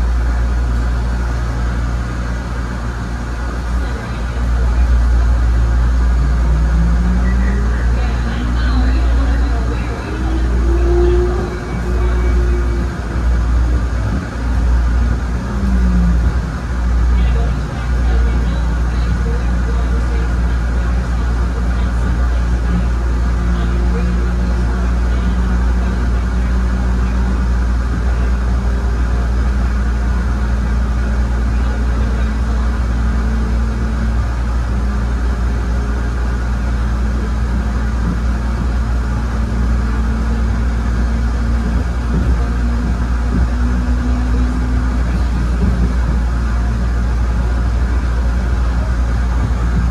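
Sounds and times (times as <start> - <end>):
rail car running noise: 0.0 - 49.9.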